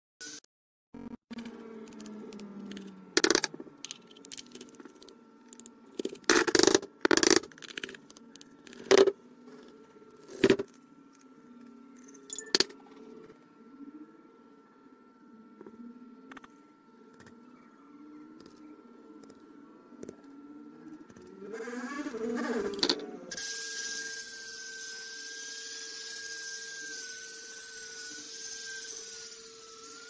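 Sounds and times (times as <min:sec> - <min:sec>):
faint steady hum: 0:01.0 - 0:30.0.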